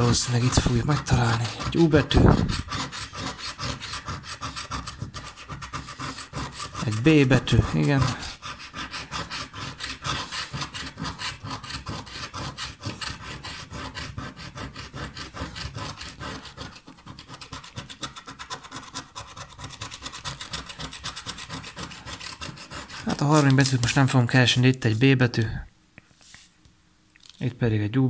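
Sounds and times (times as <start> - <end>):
lottery ticket being scratched: 0.0 - 25.2.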